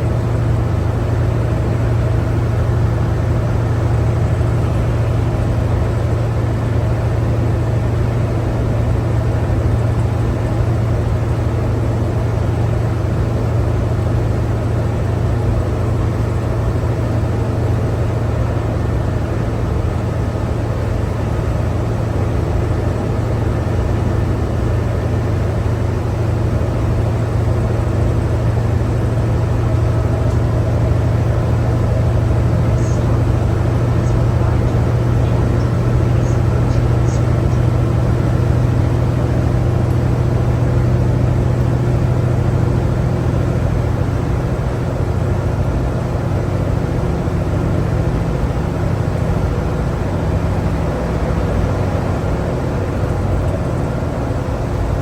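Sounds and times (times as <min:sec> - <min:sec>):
bus engine drone: 0:00.0 - 0:55.0
road and tyre noise: 0:00.0 - 0:55.0.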